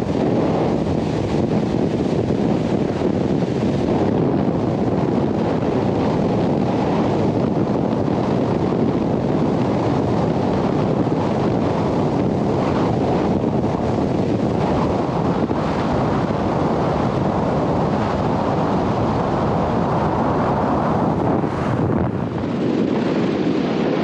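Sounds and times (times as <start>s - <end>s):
boat hull rushing over water: 0.0s - 24.0s
wind buffeting microphone: 0.0s - 24.0s.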